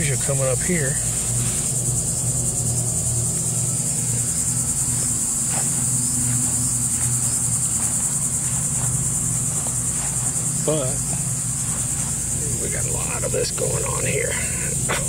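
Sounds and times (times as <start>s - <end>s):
insects buzzing: 0.0s - 15.0s
low steady hum: 0.0s - 15.0s.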